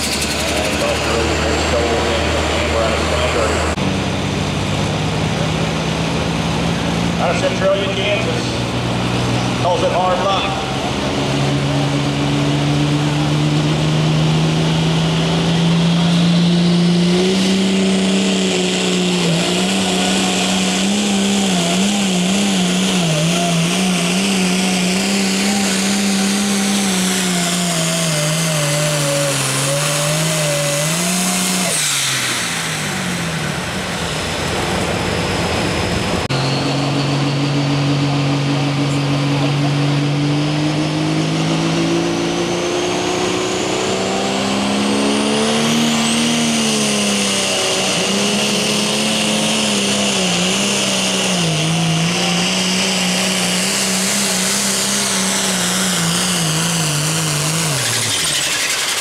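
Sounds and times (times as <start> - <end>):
tractor engine running: 0.0 - 42.5, 44.6 - 59.0
diesel engine at full throttle: 0.0 - 59.0
high turbo whine: 0.0 - 59.0.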